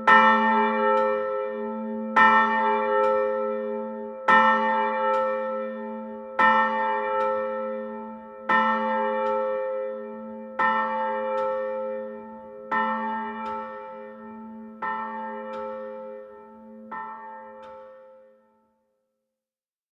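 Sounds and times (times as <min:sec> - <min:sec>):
church bell tolling: 0:00.0 - 0:18.6.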